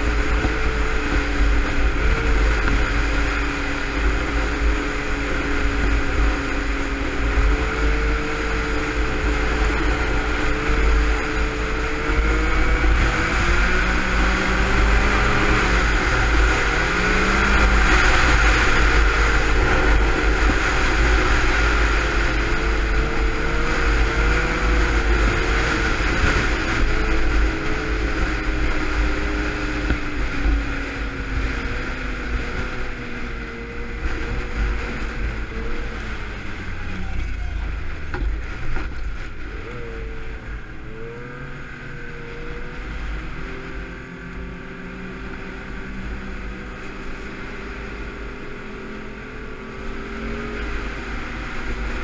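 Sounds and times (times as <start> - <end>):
snowmobile engine running: 0.0 - 52.0
wind rumbling on microphone: 0.0 - 52.0.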